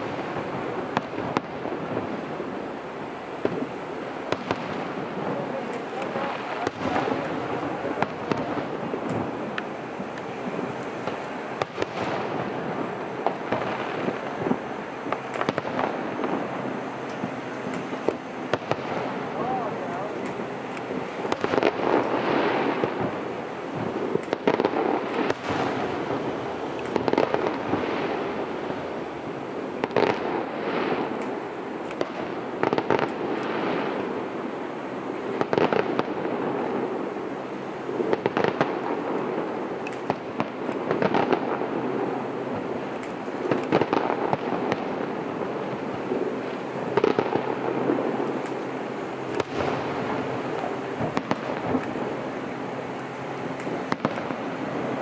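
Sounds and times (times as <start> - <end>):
firework shells bursting: 0.0 - 34.4, 35.1 - 55.0
firework crackle and rumble: 0.0 - 55.0.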